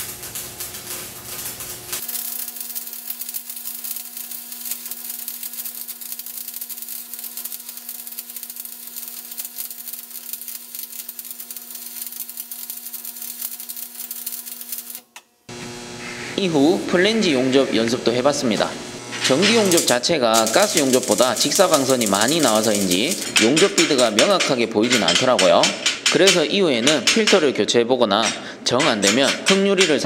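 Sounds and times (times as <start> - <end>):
steady hum: 0.0 - 27.2
welding arc crackling and sizzling: 0.0 - 27.4.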